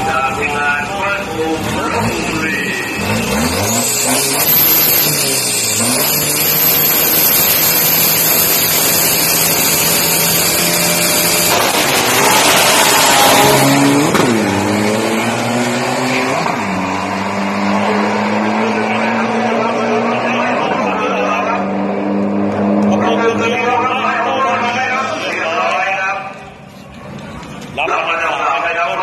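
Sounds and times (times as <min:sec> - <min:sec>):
engines accelerating at full throttle: 0:00.0 - 0:27.8
diesel engines revving: 0:00.0 - 0:29.0.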